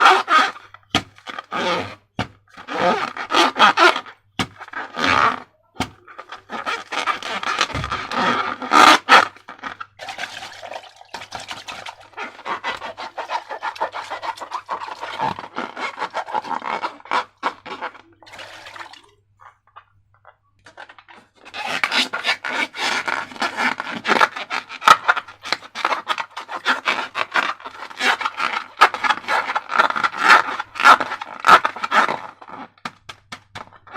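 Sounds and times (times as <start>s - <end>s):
hands scraping and rubbing materials: 0.0s - 19.1s, 20.7s - 33.9s.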